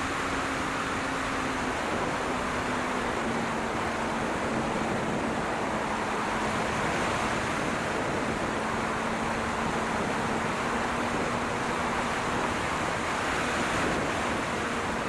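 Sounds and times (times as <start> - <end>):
wind rushing over camera: 0.0 - 15.0.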